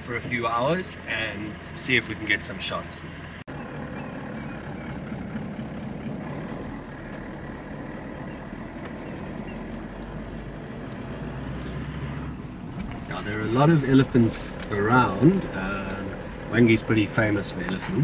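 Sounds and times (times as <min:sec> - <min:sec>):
vehicle driving on dirt track: 0:00.0 - 0:18.0.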